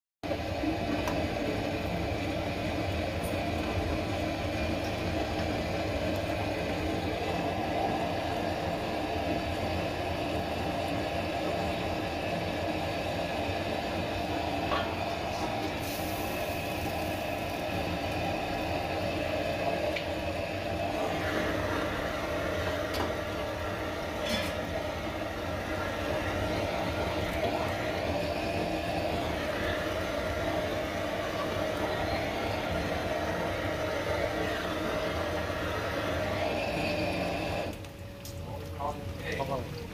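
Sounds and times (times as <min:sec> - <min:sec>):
gas burner rumbling: 0:00.2 - 0:39.9.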